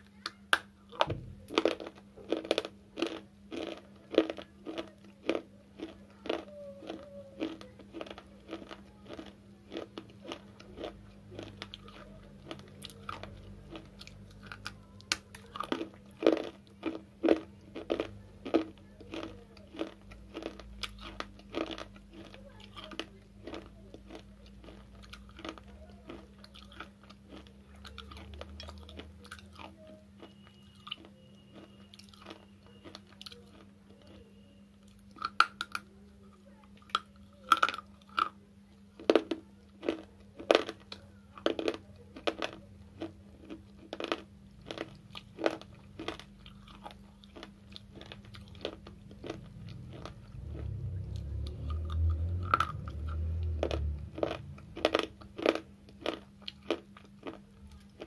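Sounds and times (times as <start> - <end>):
steady low hum: 0.0 - 58.0
slate chips crunching when chewed: 0.1 - 58.0.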